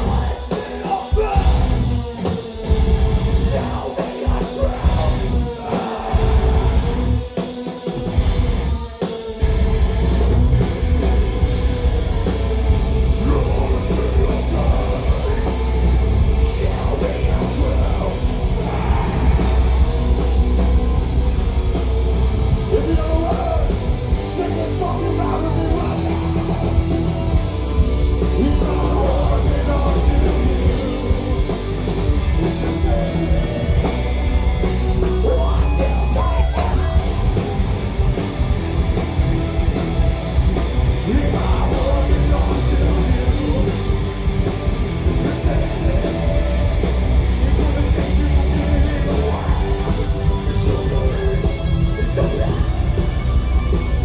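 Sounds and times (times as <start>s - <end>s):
yelled vocals: 0.0s - 8.7s, 9.4s - 54.0s
bass guitar: 0.0s - 54.0s
distorted electric guitars: 0.0s - 54.0s
drum kit: 0.0s - 54.0s.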